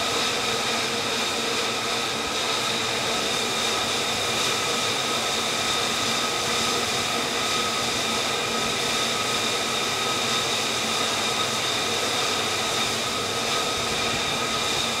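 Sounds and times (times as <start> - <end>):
jet engine idling: 0.0 - 15.0.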